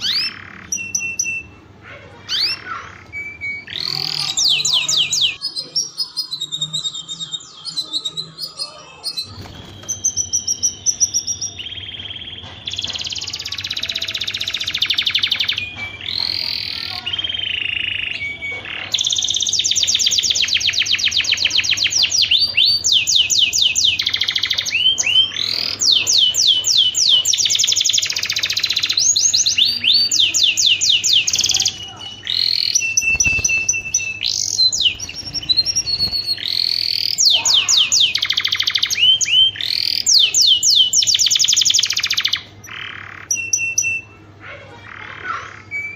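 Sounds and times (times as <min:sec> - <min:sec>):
canary singing trills: 0:00.0 - 0:45.9
faint low hum: 0:00.0 - 0:45.9.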